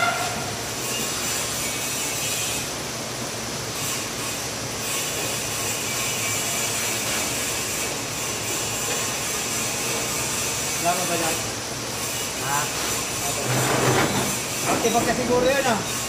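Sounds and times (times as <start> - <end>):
workshop machinery running: 0.0 - 16.0.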